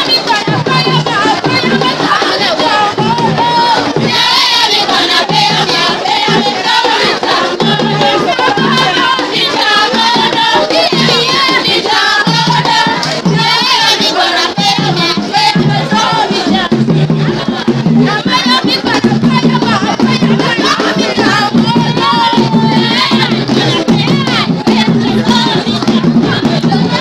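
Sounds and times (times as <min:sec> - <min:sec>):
drums: 0:00.0 - 0:27.0
group singing in chorus: 0:00.0 - 0:27.0.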